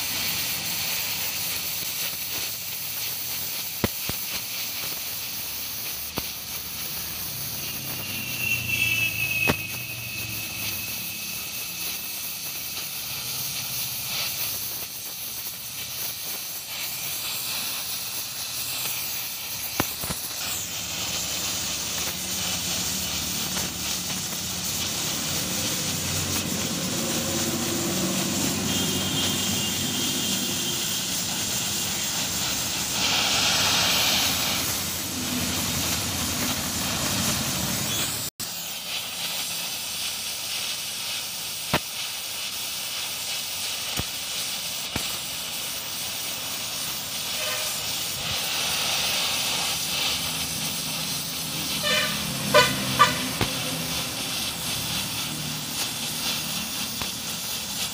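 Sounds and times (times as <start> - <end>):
welding torch flame hissing: 0.0 - 57.9.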